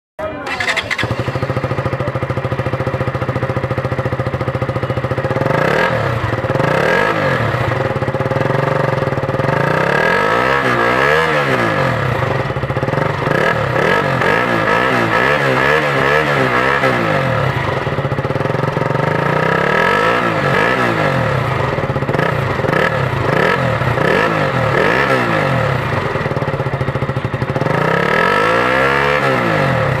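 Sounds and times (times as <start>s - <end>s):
motorcycle engine revving: 0.4s - 30.0s.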